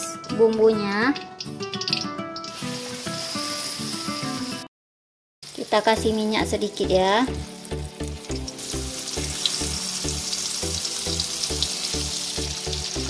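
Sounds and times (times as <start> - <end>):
paste sizzling in hot oil: 0.0 - 4.7, 5.4 - 13.0.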